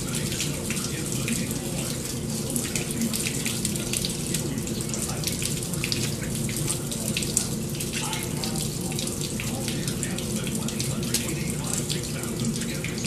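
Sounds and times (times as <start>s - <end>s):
washing machine hum: 0.0s - 13.0s
water splashing in washing machine: 0.0s - 13.0s.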